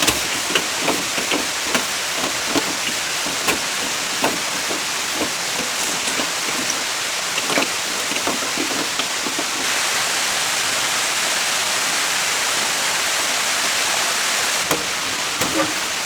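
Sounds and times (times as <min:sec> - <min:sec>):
hiss of running water: 0:00.0 - 0:16.0.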